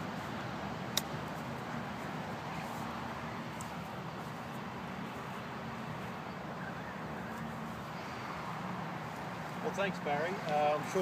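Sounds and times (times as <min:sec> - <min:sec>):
outdoor background hum and hiss: 0:00.0 - 0:11.0.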